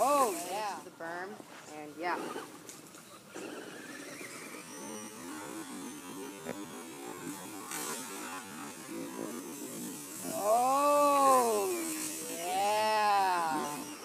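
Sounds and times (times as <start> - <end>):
electric toy truck motor whirring: 0.0 - 1.0, 2.0 - 14.0.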